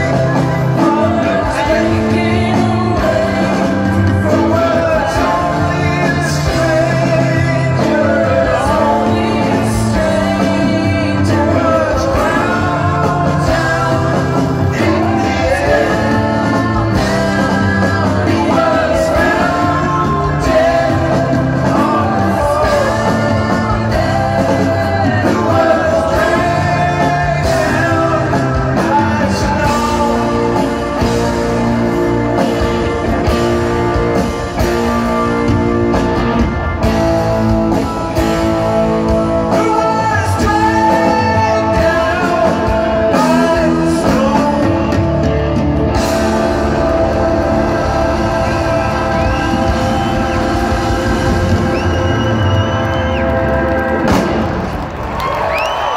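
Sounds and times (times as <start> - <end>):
live rock band: 0.0 - 55.9
sung vocal harmonies: 0.0 - 55.9.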